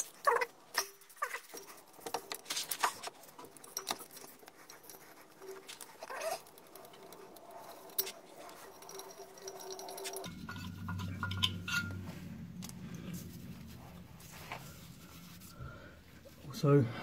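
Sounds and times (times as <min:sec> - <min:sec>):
gloved hand handling metal parts: 0:00.0 - 0:15.6
low steady hum: 0:00.0 - 0:17.0.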